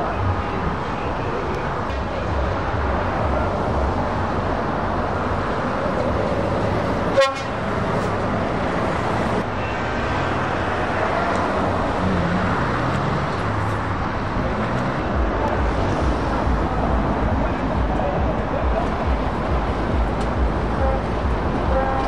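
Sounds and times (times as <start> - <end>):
heavy truck engines running: 0.0 - 22.0
traffic noise: 0.0 - 22.0.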